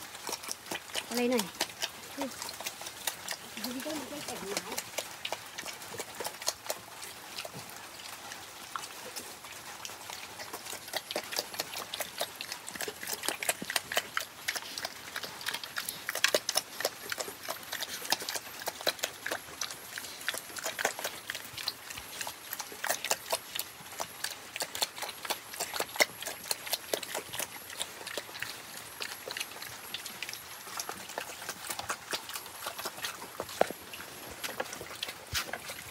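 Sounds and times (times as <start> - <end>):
pigs chewing and smacking: 0.0 - 35.9.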